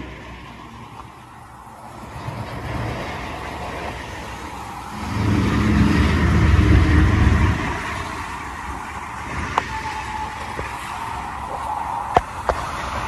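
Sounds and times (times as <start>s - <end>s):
locomotive engine rumble: 0.0s - 13.0s
tank cars rolling on rails: 0.0s - 13.0s.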